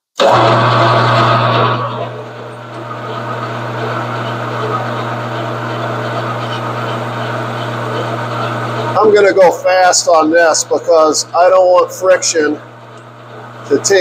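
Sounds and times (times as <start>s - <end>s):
metal lathe motor hum: 0.2s - 14.0s.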